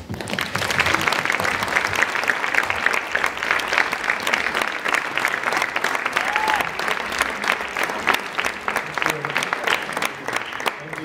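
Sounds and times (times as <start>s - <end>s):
large audience applauding: 0.0s - 11.0s.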